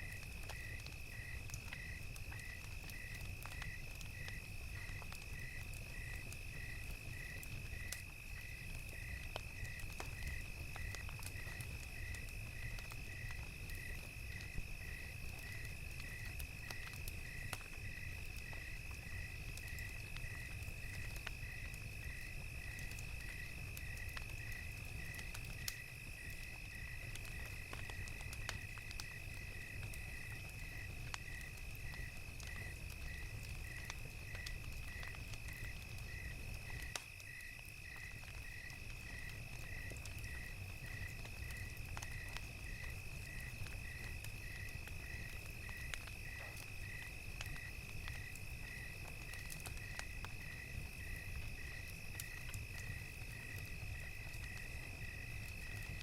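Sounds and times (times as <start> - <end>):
cricket chirping: 0.0 - 56.0
fire crackling and popping: 0.0 - 56.0.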